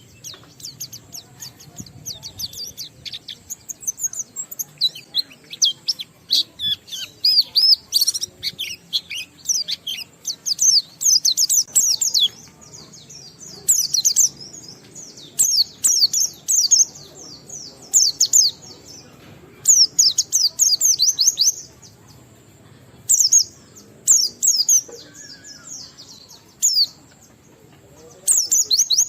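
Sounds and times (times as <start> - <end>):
bird twittering song: 0.0 - 29.0.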